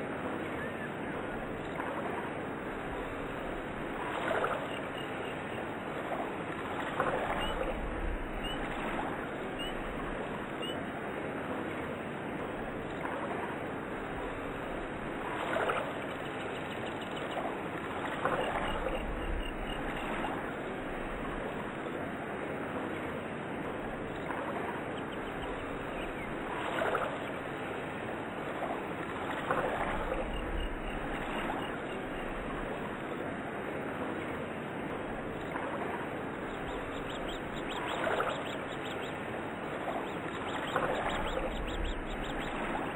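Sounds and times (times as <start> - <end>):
faint high chirps: 0.0 - 6.3, 7.0 - 11.2, 11.9 - 17.5, 18.2 - 28.2, 28.9 - 42.9
rushing water: 0.0 - 42.9.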